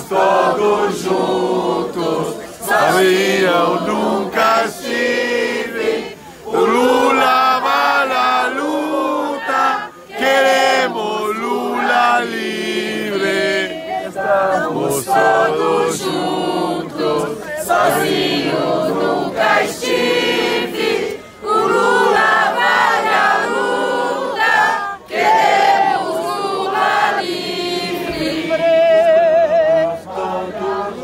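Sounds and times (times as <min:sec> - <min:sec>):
crowd singing in unison: 0:00.0 - 0:31.0.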